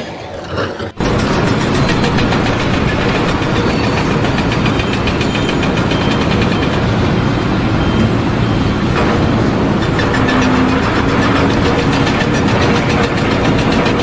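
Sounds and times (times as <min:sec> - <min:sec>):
heavy engine idling: 0:01.0 - 0:14.0.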